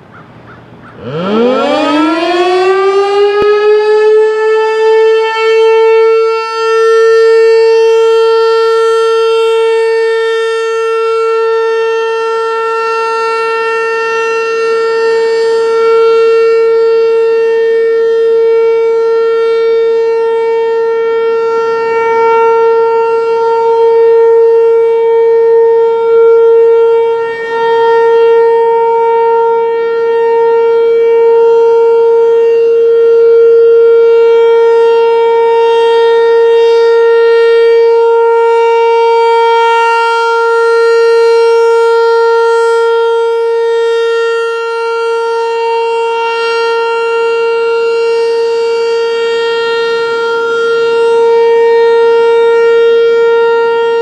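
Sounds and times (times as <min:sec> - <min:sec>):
rotating siren steady tone: 0:00.0 - 0:54.0.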